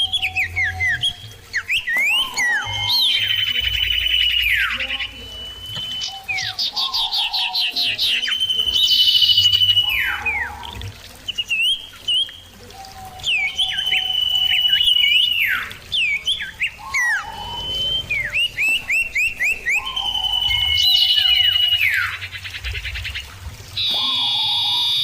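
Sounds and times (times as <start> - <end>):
birds singing and calling: 0.0 - 25.0.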